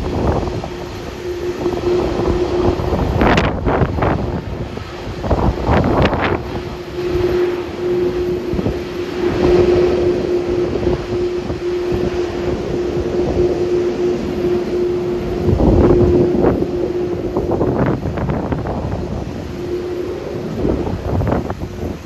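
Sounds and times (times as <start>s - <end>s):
jet engines rumbling: 0.0s - 22.0s
wind buffeting microphone: 0.0s - 22.0s.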